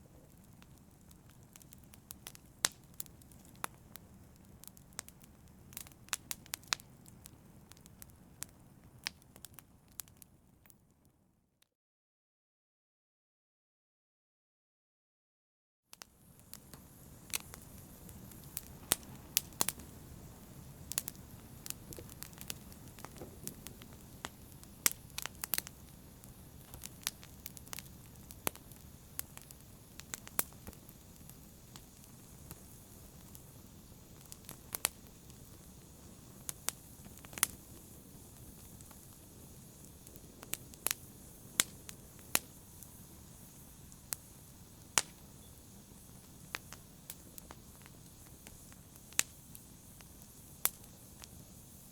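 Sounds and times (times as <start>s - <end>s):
wood fire crackling: 0.0s - 10.8s, 16.0s - 51.9s.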